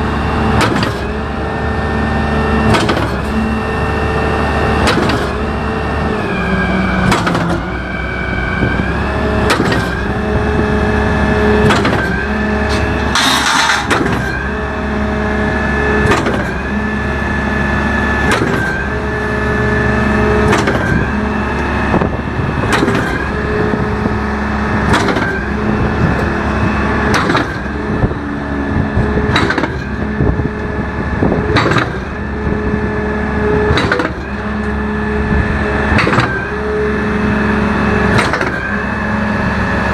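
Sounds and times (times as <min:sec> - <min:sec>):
concrete pump engine drone: 0:00.0 - 0:39.9
hydraulic whine: 0:00.0 - 0:39.9.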